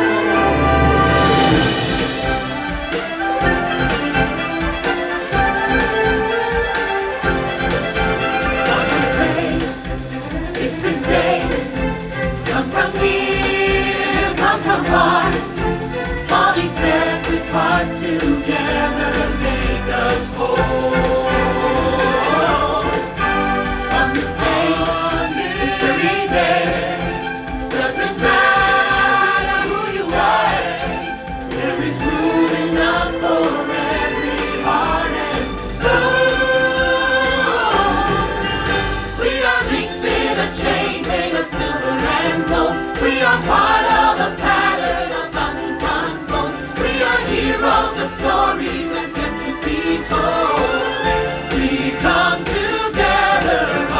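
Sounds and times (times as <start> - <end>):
choir singing: 0.0 - 53.9
instrumental accompaniment: 0.0 - 53.9.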